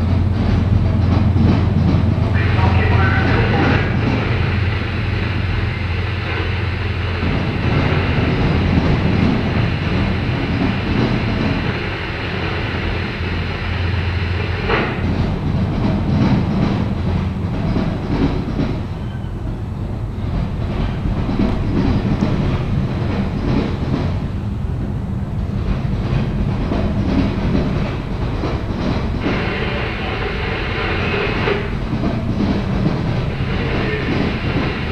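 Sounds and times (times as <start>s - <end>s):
freight train rumbling past: 0.0s - 34.9s.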